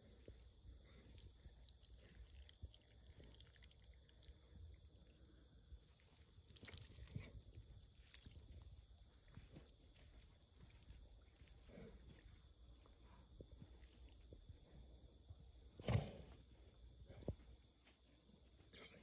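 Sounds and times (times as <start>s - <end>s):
faint low rumble: 0.0s - 19.0s.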